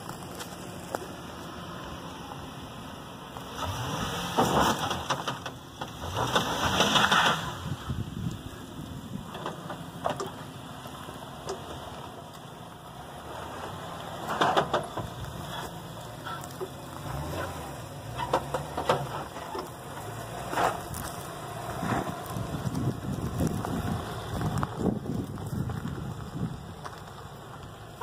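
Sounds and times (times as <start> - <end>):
suv engine running: 0.0 - 28.0
tyres crunching on gravel: 0.0 - 28.0.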